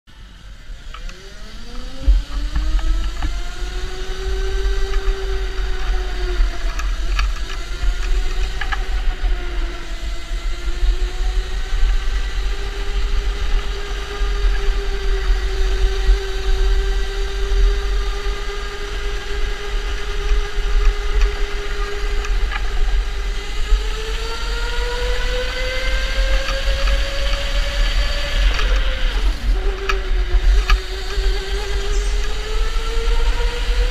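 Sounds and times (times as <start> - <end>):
electric go-kart motor whining: 0.1 - 33.9.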